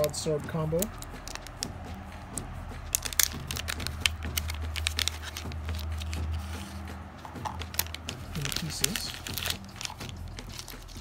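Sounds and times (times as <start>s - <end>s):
plastic bag crinkling: 0.8s - 2.0s, 2.8s - 11.0s.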